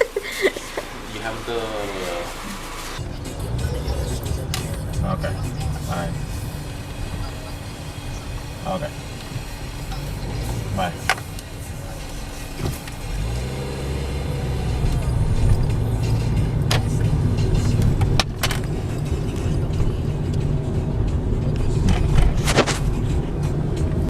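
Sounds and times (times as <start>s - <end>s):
car engine: 0.0s - 24.0s
road rumble: 0.0s - 24.0s.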